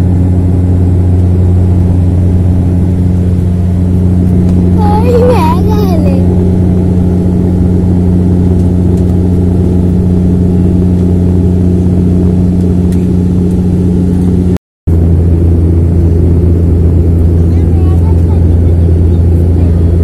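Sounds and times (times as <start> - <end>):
turboprop engine and propeller hum: 0.0 - 20.0.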